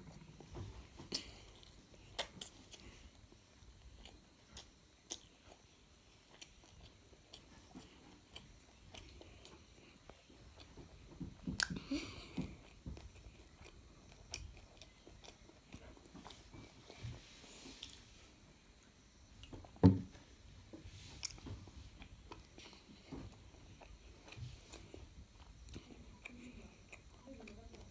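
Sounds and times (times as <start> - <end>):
child chewing food: 0.0 - 27.9.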